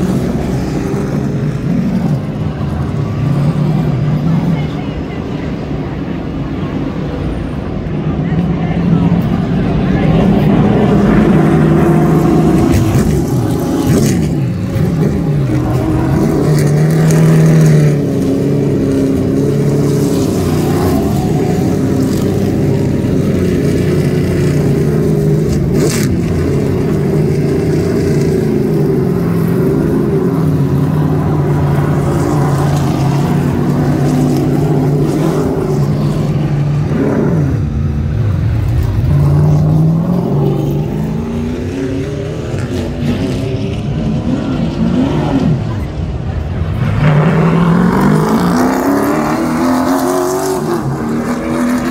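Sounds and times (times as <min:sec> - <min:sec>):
race car engines passing: 0:00.0 - 0:51.9.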